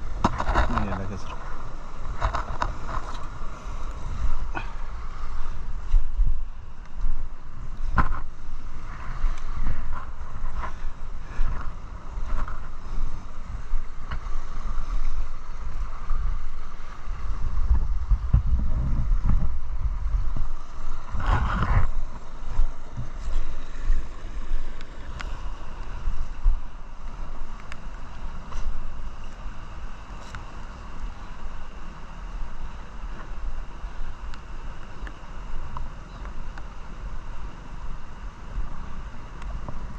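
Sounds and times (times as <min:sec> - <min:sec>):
wind buffeting on microphone: 0:00.0 - 0:39.9.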